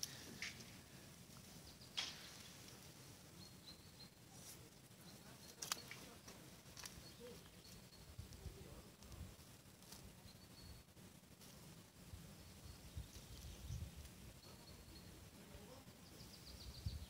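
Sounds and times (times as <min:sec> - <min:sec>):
faint outdoor ambience: 0:00.0 - 0:17.0.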